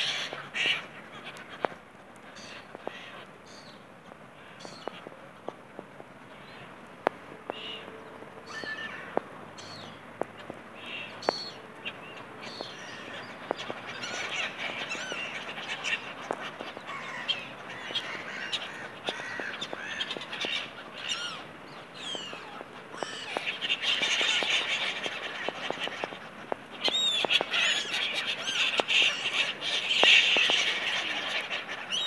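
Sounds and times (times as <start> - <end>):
gulls calling: 0.0 - 32.0.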